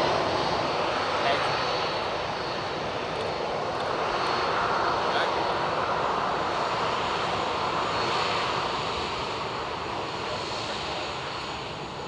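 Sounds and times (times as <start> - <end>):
jet engine rushing with whine: 0.0 - 12.0.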